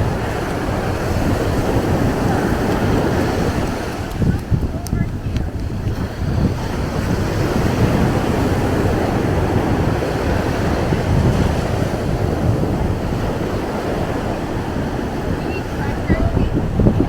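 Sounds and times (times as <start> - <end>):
ocean surf washing on beach: 0.0 - 17.0
wind buffeting microphone: 0.0 - 17.0.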